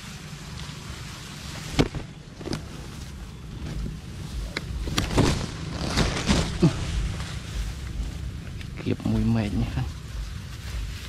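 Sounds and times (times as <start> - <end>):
rustling of cord and net: 0.0 - 11.0
steady low rumble: 0.0 - 11.0.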